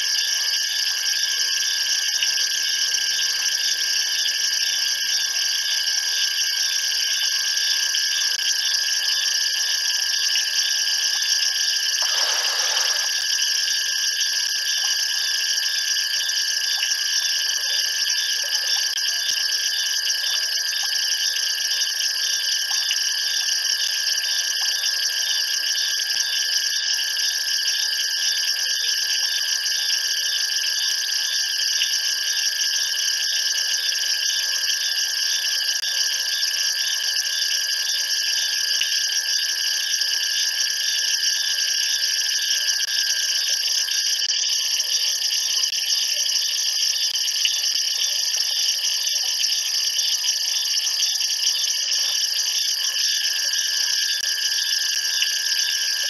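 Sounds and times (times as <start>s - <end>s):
insects chirping at night: 0.0s - 56.0s.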